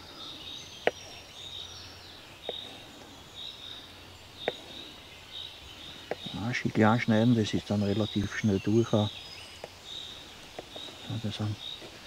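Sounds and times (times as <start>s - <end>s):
high chirping: 0.0s - 12.0s.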